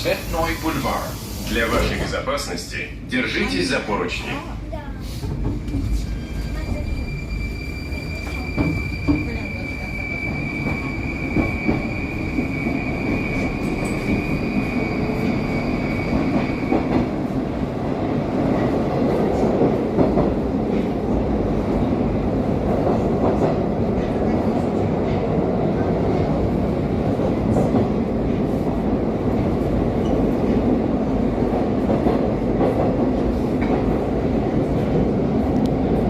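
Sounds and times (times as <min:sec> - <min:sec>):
train wheels rolling on rails: 0:04.3 - 0:36.0.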